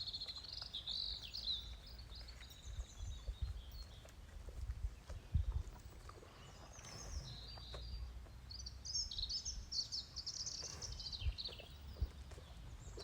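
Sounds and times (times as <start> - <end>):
songbird twittering and warbling: 0.0 - 4.1, 6.3 - 13.0.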